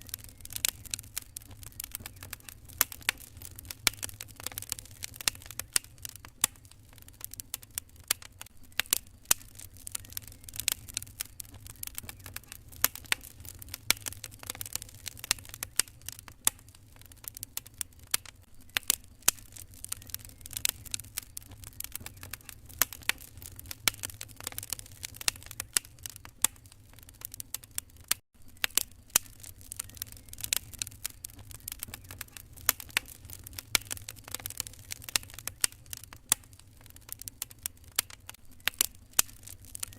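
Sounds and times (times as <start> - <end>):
fireplace fire crackling: 0.0 - 39.9
sharp pops and snaps: 0.0 - 39.9.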